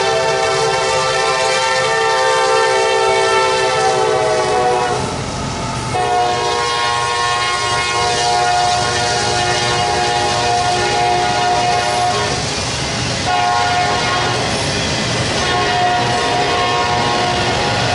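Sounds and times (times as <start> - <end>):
locomotive air horn blasts: 0.0 - 5.2, 5.9 - 12.4, 13.2 - 14.5, 15.3 - 17.9.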